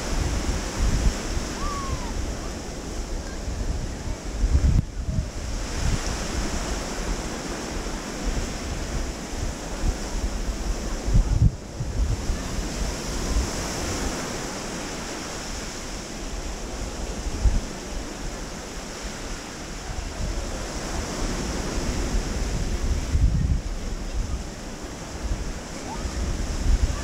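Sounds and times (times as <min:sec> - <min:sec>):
small waves washing on shore: 0:00.0 - 0:27.0
wind buffeting microphone: 0:00.0 - 0:27.0.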